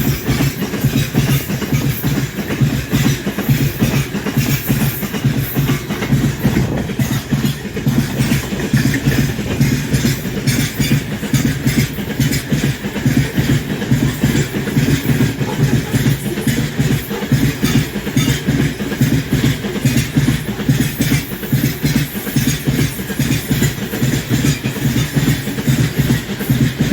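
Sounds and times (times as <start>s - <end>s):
train wheels clattering on rails: 0.0s - 26.9s.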